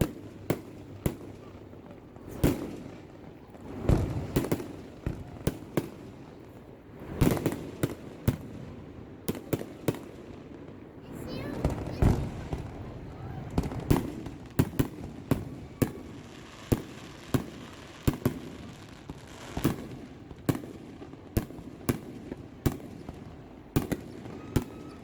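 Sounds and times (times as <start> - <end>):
distant fireworks rumble: 0.0 - 25.0
fireworks bangs: 0.0 - 25.0.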